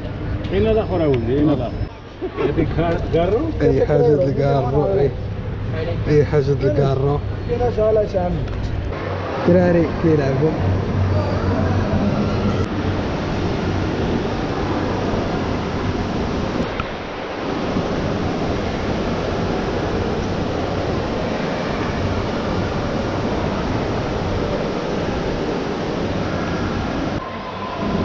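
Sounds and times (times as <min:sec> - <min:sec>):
echoing distant crowd: 0:00.0 - 0:28.0.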